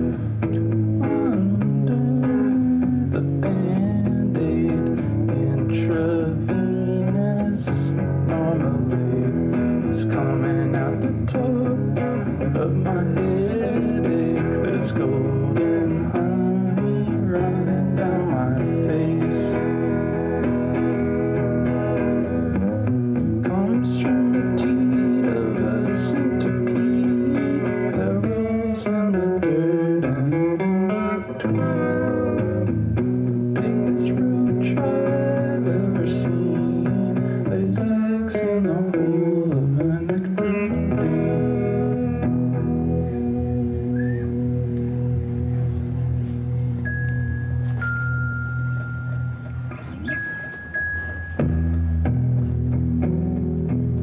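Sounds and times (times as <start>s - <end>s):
steady bass: 0.0s - 50.4s, 51.2s - 54.0s
plucked guitar-like tones: 0.0s - 54.0s.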